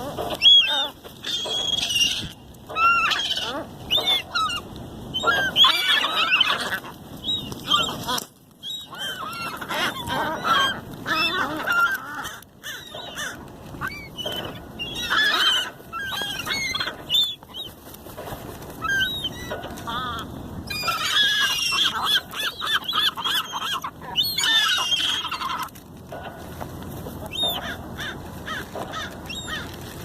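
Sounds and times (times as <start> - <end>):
gulls calling: 0.0 - 30.0.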